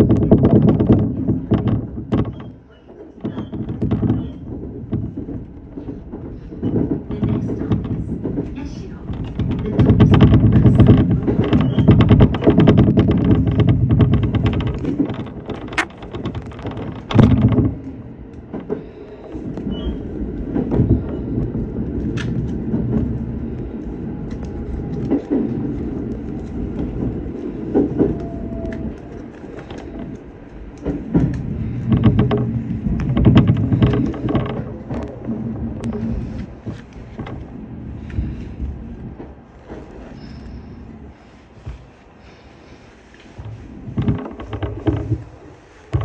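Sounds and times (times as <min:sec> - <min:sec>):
electric train rumbling: 0:00.0 - 0:46.0
wheel clatter over rails: 0:00.0 - 0:46.0.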